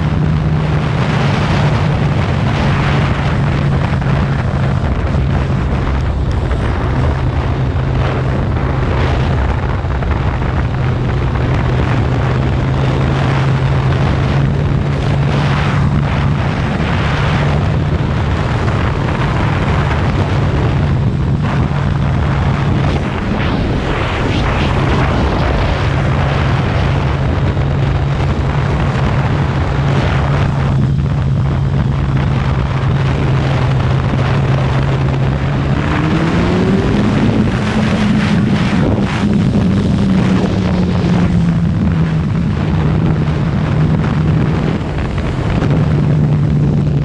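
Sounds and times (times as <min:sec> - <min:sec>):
broad rushing noise: 0:00.0 - 0:47.0
motorcycle engine running: 0:00.0 - 0:47.0.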